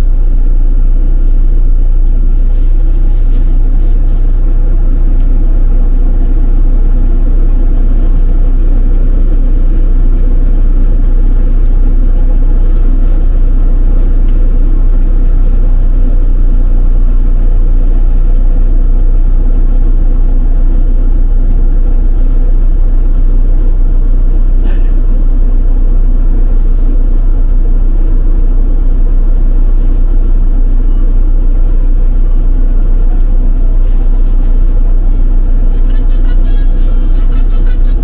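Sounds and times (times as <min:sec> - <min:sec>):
bus engine and road rumble: 0:00.0 - 0:38.0
faint constant hum: 0:00.0 - 0:38.0.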